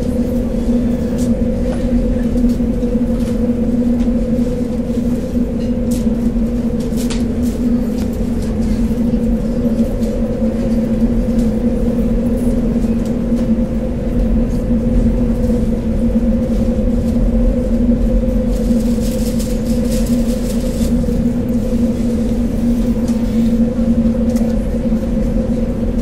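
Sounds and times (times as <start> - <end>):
low rumble: 0.0 - 26.0
machine hum: 0.0 - 26.0.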